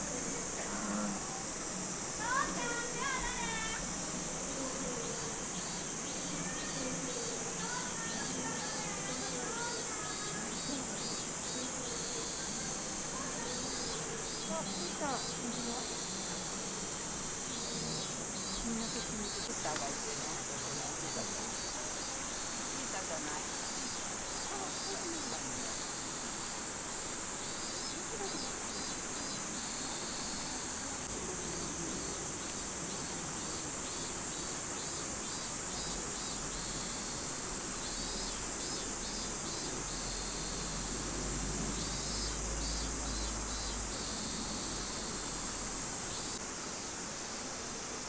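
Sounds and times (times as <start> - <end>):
insects droning high-pitched: 0.0 - 48.0
rapid pulsing insect calls: 0.0 - 48.0.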